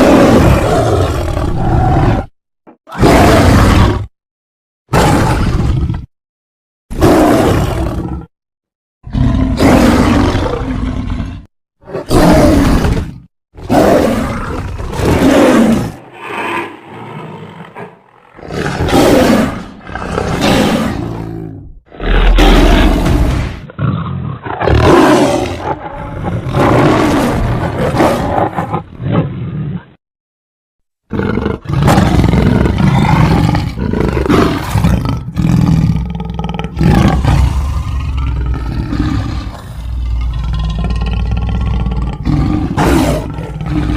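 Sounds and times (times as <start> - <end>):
creature roars: 0.0 - 2.3, 2.9 - 4.1, 4.9 - 6.1, 6.9 - 8.3, 9.1 - 30.0, 31.1 - 43.9.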